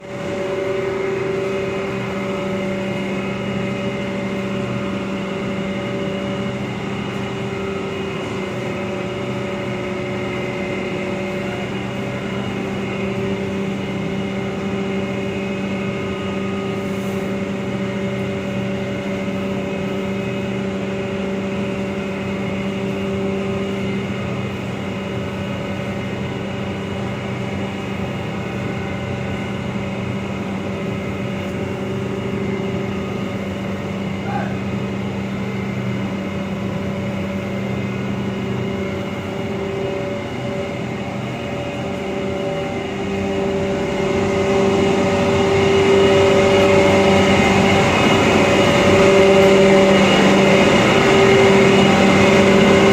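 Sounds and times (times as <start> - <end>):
grinding machine humming: 0.0 - 52.9.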